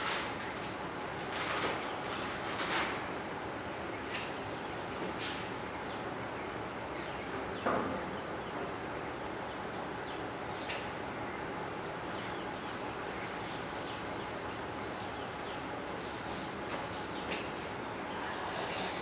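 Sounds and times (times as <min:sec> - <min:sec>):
insects trilling: 0:00.2 - 0:19.0.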